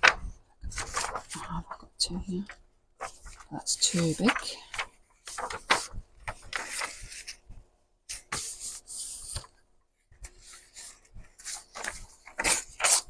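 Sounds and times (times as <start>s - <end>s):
paper rustling and sliding: 0.0s - 1.9s, 3.0s - 13.0s.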